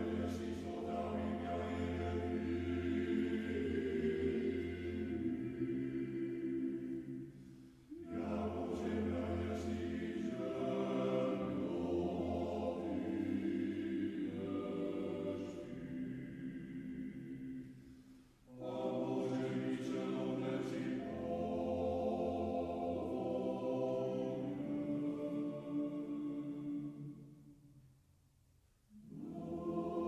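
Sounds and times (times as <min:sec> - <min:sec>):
choir singing chant: 0:00.0 - 0:27.6, 0:28.9 - 0:30.0.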